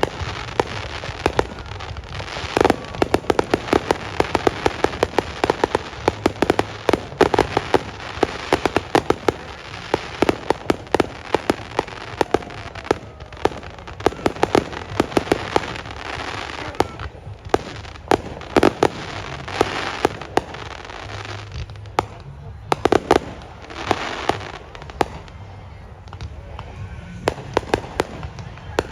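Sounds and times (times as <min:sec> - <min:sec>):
fireworks bangs and pops: 0:00.0 - 0:28.9
fireworks crackling: 0:00.0 - 0:28.9.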